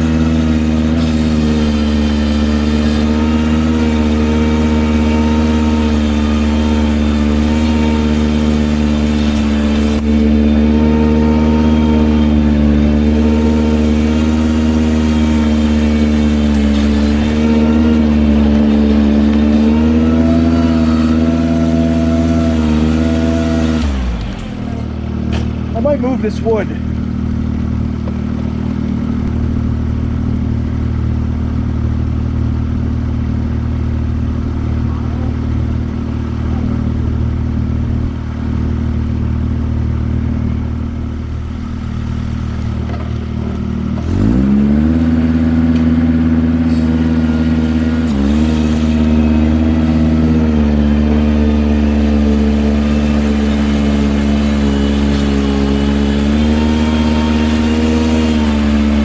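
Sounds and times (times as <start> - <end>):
tractor engine revving: 0.0 - 59.0.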